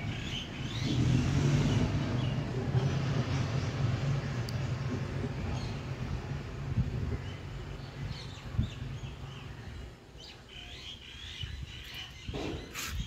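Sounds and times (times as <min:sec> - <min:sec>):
small birds chirping: 0:00.0 - 0:06.2, 0:06.8 - 0:13.0.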